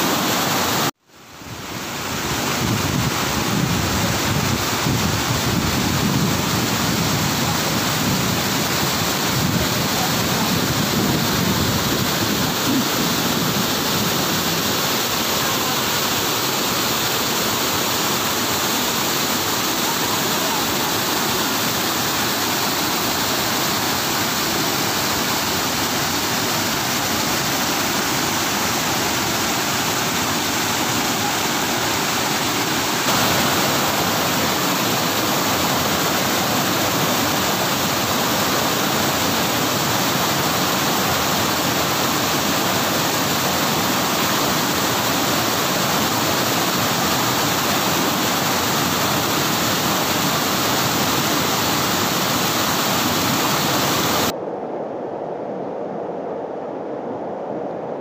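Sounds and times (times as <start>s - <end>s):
waterfall rushing: 0.0s - 54.4s.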